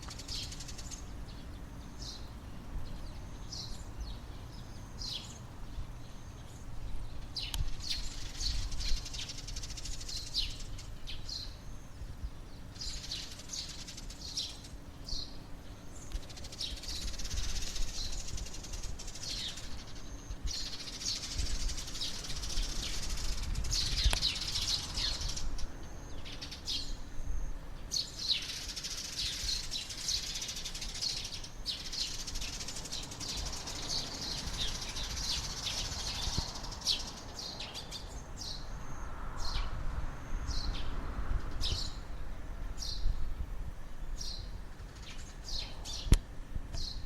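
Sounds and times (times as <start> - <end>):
sparrows chirping: 0.0 - 47.0.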